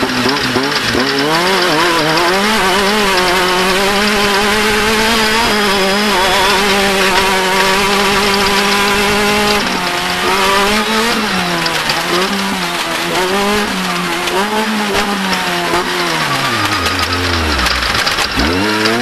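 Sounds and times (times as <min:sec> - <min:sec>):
engine revving at high revs: 0:00.0 - 0:19.0.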